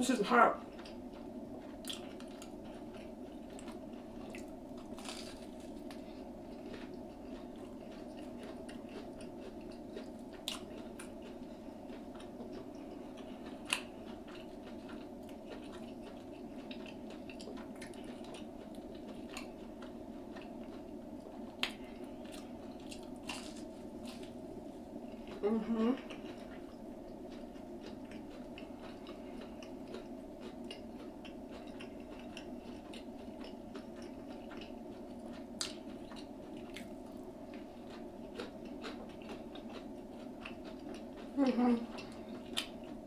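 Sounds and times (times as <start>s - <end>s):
steady background hum: 0.0s - 43.0s
chewing fried food: 0.1s - 43.0s.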